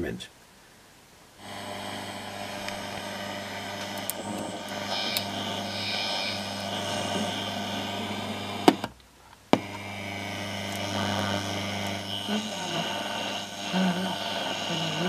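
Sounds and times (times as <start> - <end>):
mains hum: 0.0 - 15.0
static crackles: 1.2 - 15.0
radio hiss and buzz: 1.4 - 15.0.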